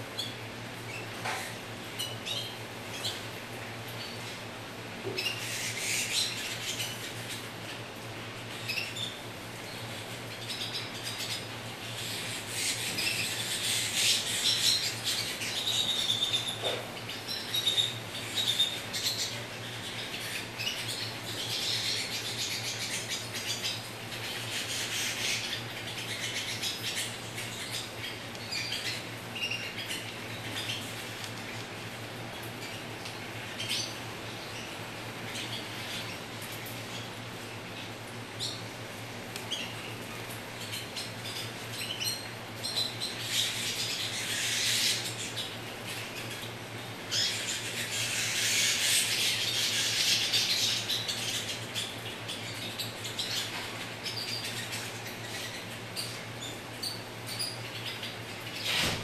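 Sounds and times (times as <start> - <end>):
canaries chirping and twittering: 0.2 - 3.3, 5.1 - 38.7, 39.3 - 59.0.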